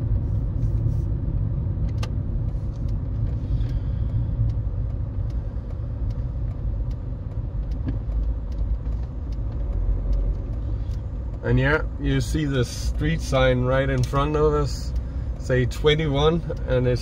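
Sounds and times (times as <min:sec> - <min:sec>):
minivan driving rumble: 0:00.0 - 0:17.0.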